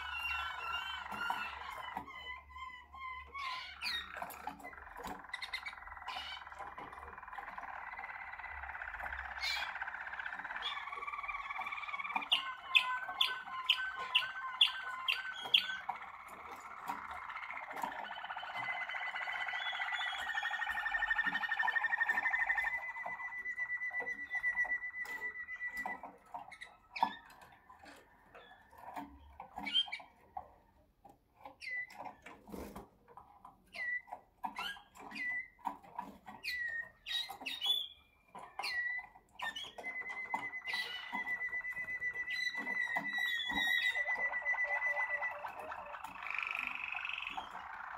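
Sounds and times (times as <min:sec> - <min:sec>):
canaries singing: 0:00.0 - 0:47.9.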